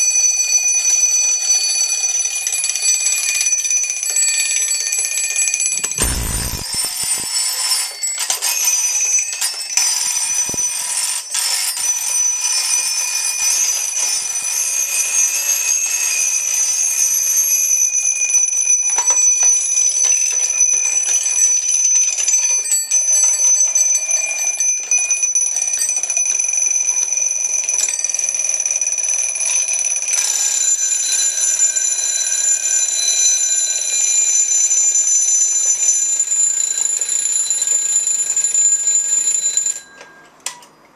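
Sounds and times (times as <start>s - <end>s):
alarm clocks ringing: 0.0s - 40.6s.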